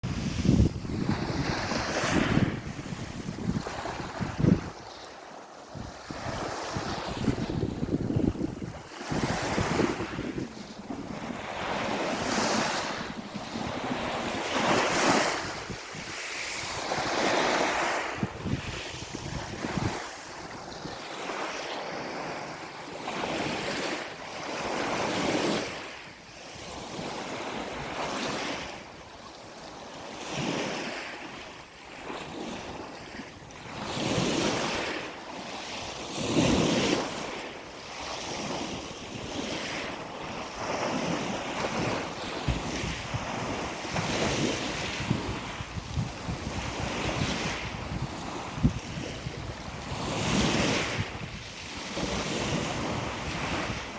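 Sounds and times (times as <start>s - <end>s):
sea waves washing in: 0.0s - 53.9s
wind on the microphone: 0.0s - 53.9s.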